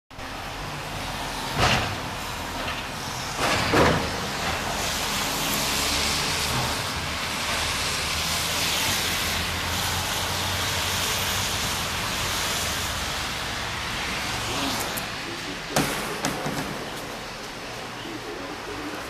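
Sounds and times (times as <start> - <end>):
traffic on wet streets: 0.1 - 19.0.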